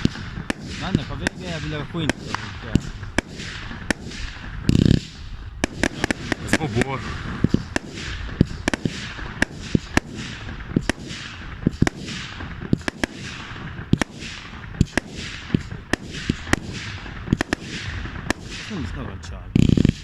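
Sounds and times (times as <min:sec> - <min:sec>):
fireworks bangs with hissing crackle: 0:00.0 - 0:20.0.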